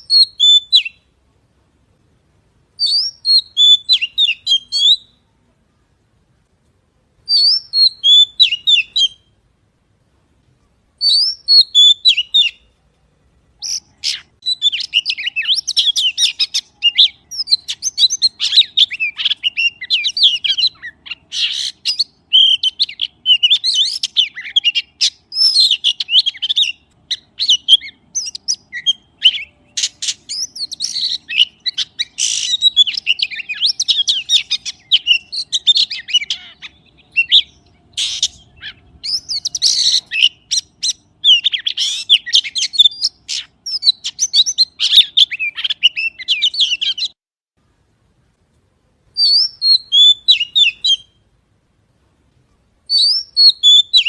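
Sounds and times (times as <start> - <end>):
magpie singing: 0.0 - 1.1, 2.8 - 5.2, 7.3 - 9.4, 11.0 - 12.8, 13.5 - 47.2, 49.1 - 51.2, 52.9 - 54.0.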